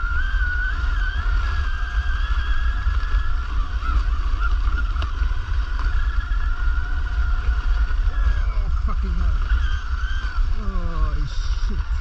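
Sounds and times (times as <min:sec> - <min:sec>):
electric motor high whine: 0:00.0 - 0:12.0
low rumble: 0:00.0 - 0:12.0.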